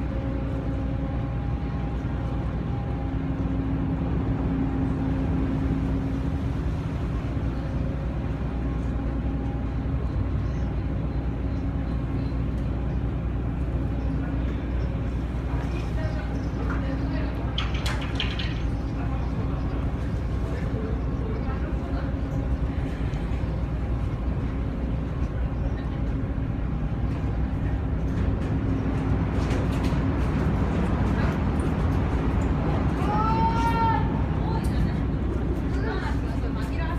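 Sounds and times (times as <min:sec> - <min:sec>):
constant hum: 0:00.0 - 0:36.9
ship engines droning: 0:00.0 - 0:36.9.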